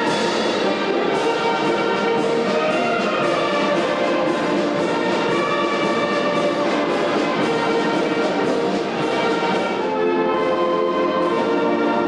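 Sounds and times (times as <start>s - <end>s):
orchestral brass music: 0.0s - 12.0s.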